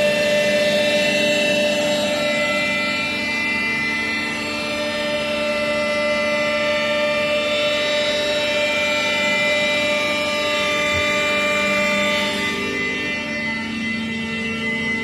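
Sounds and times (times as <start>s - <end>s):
machine whine: 0.0s - 15.0s.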